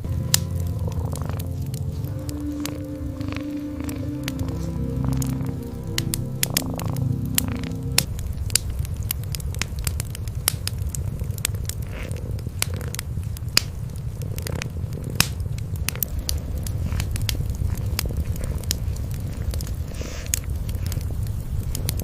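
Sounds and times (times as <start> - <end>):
cats purring: 0.0 - 22.0
wood fire crackling: 0.0 - 22.0.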